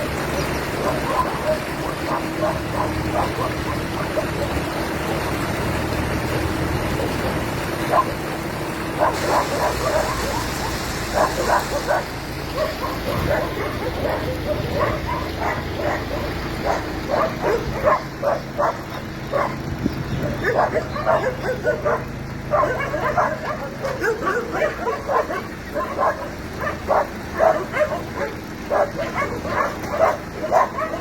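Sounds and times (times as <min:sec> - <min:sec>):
dog barking: 0:00.7 - 0:04.7, 0:06.9 - 0:08.2, 0:08.9 - 0:31.0.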